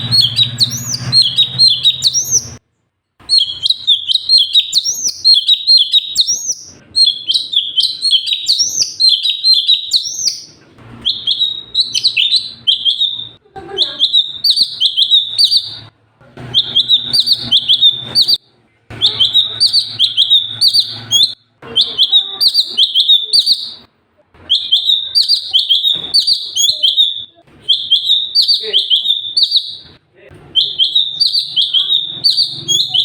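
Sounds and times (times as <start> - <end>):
bird singing high chattering notes: 0.0 - 2.6, 3.2 - 15.9, 16.5 - 23.9, 24.5 - 33.0.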